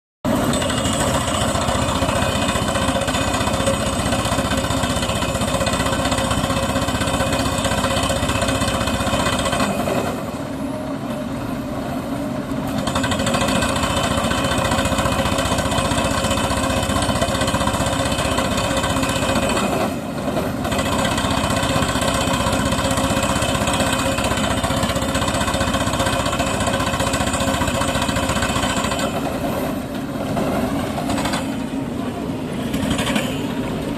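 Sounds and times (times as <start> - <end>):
machine engine running: 0.3 - 33.9.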